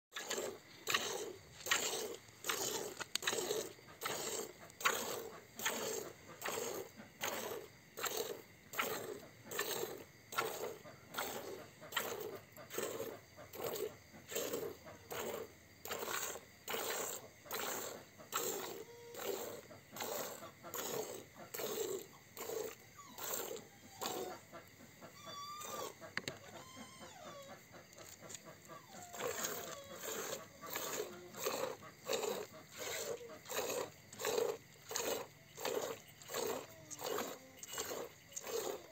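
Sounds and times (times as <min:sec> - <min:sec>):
milk squirting into plastic bucket: 0:00.2 - 0:24.4, 0:29.0 - 0:38.9.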